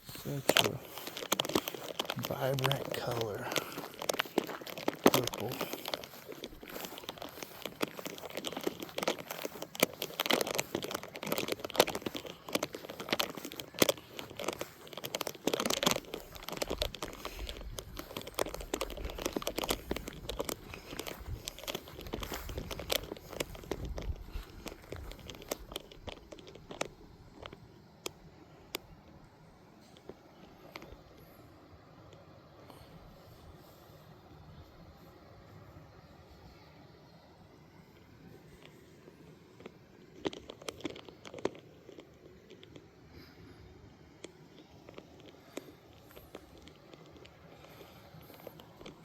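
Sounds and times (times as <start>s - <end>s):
crackling and rustling: 0.0s - 49.0s.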